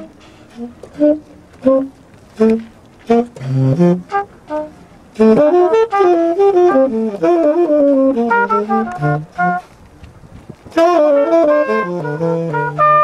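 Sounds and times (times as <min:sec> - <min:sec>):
tenor saxophone playing jazz: 0:00.0 - 0:13.0.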